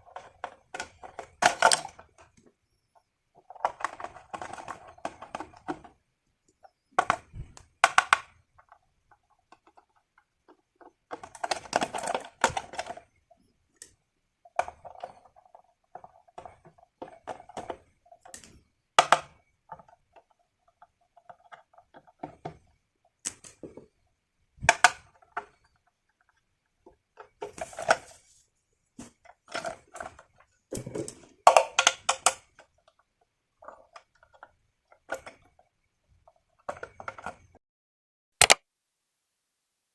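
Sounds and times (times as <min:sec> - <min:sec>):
plastic toys clicking and rattling: 0:00.0 - 0:02.5, 0:03.4 - 0:06.0, 0:06.6 - 0:13.1, 0:13.8 - 0:23.8, 0:24.6 - 0:28.4, 0:29.0 - 0:37.6.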